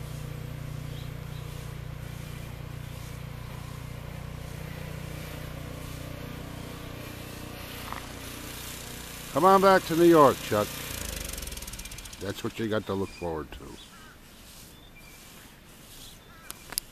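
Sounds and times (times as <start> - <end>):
engine running steadily: 0.0 - 14.2.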